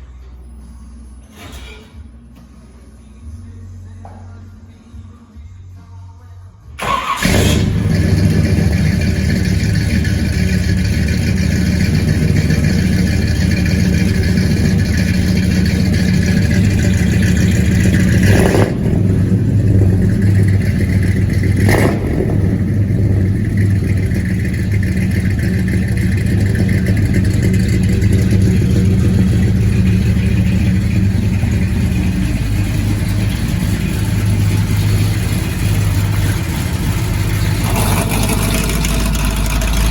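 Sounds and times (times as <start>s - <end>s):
loud vehicle exhaust: 7.1s - 39.9s.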